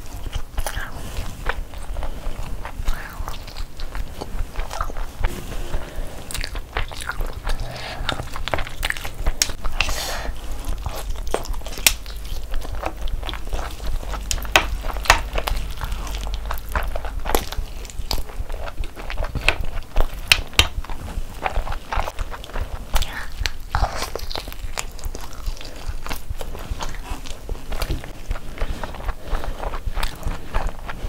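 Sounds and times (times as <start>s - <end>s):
biting and chewing: 0.0s - 31.0s
wet smacking mouth sounds: 0.0s - 31.0s.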